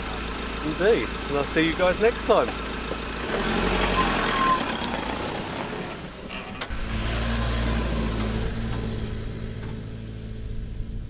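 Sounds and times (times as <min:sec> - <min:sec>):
truck engine low hum: 0:00.0 - 0:11.0.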